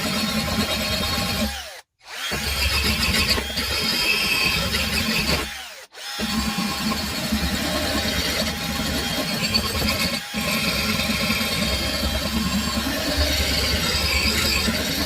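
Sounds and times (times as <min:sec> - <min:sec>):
power tool abrading rust: 0:00.0 - 0:15.0.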